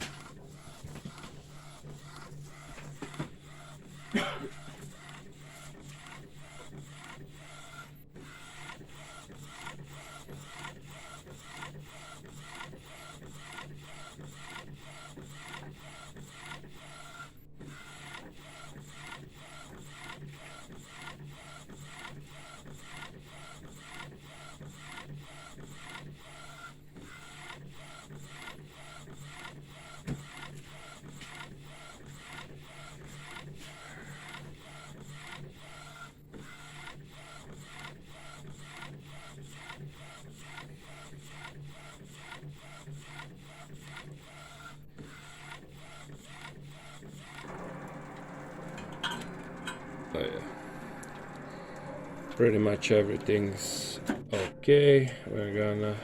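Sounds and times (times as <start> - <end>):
printer carriage sweeping: 0.0 - 56.0
printer hum: 0.0 - 56.0.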